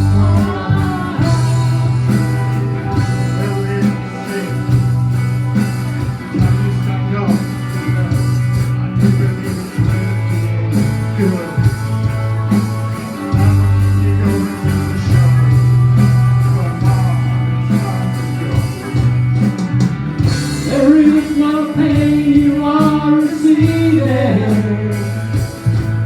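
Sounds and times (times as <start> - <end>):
electric guitar: 0.0 - 26.0
held bass notes: 0.0 - 26.0.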